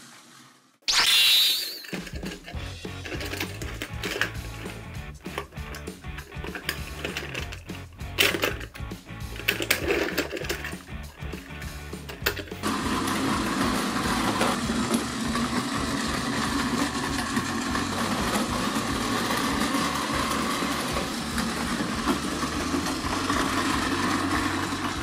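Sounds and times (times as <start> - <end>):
toy train motor whirring: 0.9 - 25.0.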